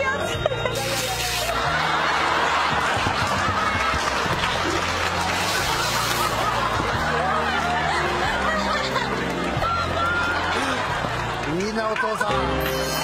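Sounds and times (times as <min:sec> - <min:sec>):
audience laughing: 0:00.3 - 0:12.3.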